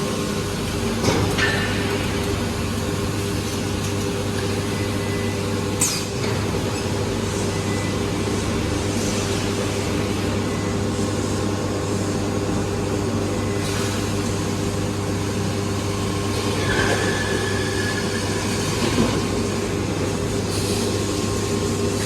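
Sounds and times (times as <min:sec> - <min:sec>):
machine hum with steady tones: 0:00.0 - 0:22.0.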